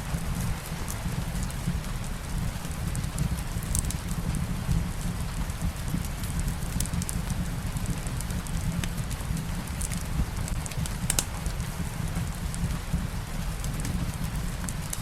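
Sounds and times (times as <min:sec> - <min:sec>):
fireplace fire crackling: 0:00.0 - 0:15.0
steady rain: 0:00.0 - 0:15.0.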